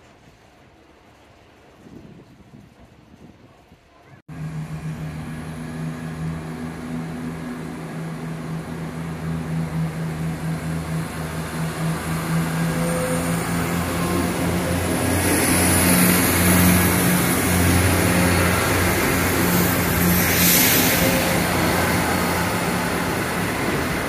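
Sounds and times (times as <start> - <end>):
train engine hum: 0.0 - 24.0.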